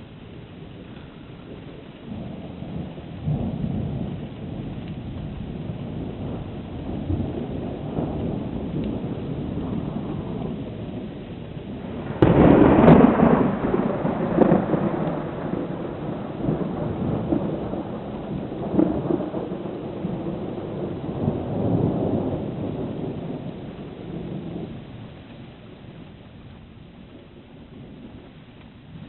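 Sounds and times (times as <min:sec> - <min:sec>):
steady rain: 0:00.0 - 0:29.0
thunder crack and rumble: 0:00.0 - 0:29.0.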